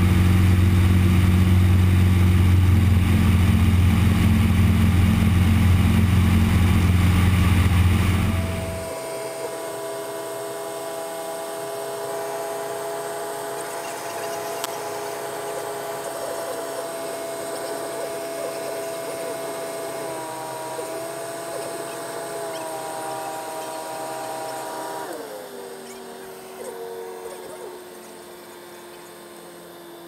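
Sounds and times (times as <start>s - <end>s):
propeller engine drone: 0.0s - 30.0s.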